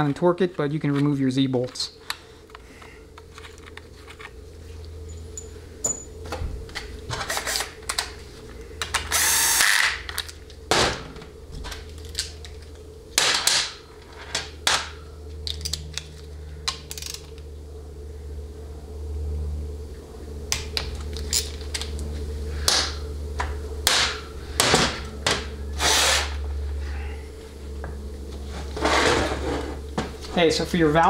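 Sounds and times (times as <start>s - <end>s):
low hum: 1.9s - 31.0s.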